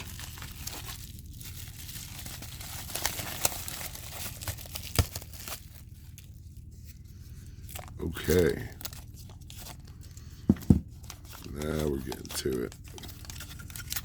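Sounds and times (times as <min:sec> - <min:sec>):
packaging crinkling and ripping: 0:00.0 - 0:14.0.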